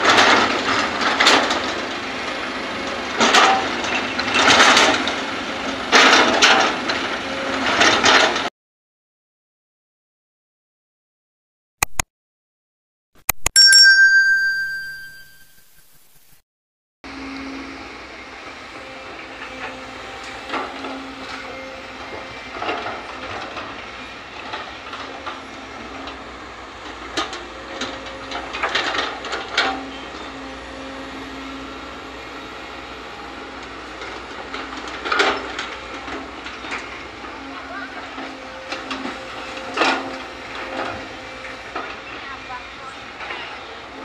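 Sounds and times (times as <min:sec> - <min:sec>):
excavator diesel engine running: 0:00.0 - 0:08.5, 0:17.1 - 0:44.0.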